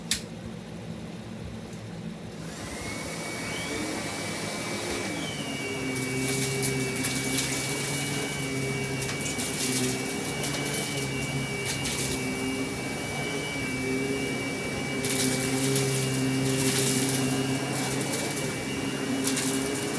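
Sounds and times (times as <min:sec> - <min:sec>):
vacuum cleaner motor whining: 0:02.3 - 0:19.9.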